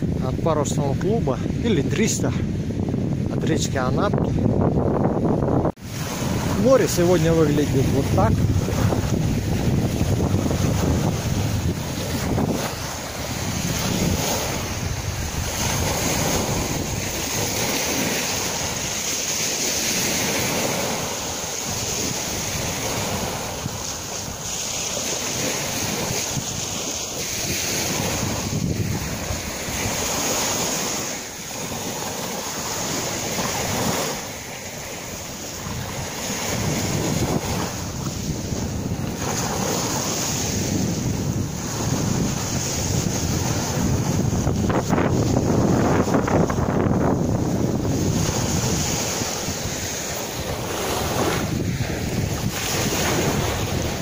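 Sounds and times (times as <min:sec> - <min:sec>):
waves breaking on beach: 0:00.0 - 0:54.0
wind buffeting microphone: 0:00.0 - 0:54.0.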